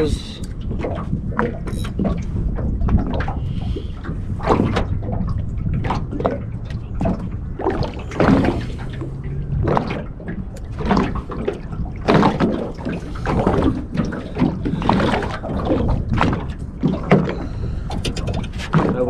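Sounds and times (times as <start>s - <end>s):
water slapping against boat hull: 0.0s - 19.0s.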